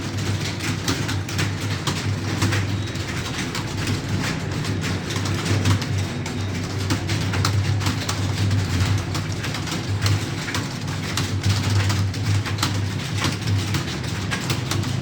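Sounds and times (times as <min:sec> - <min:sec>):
keyboard typing clatter: 0:00.0 - 0:15.0.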